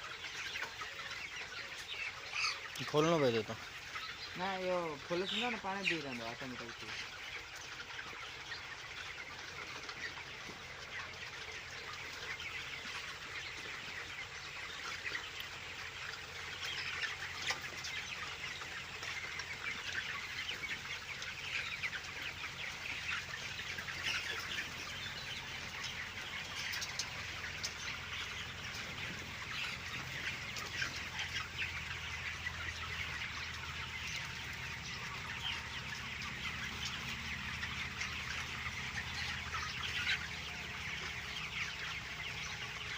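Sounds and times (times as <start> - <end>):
chickens peeping and clucking: 0.0 - 42.9.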